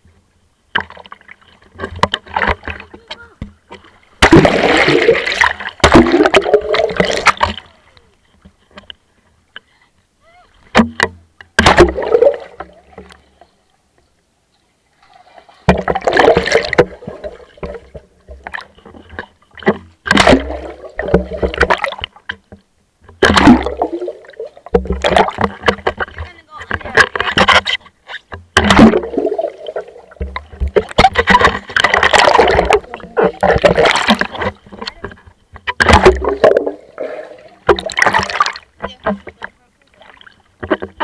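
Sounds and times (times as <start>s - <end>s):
muffled underwater splashing: 0.7s - 8.8s, 10.2s - 13.6s, 14.9s - 41.0s.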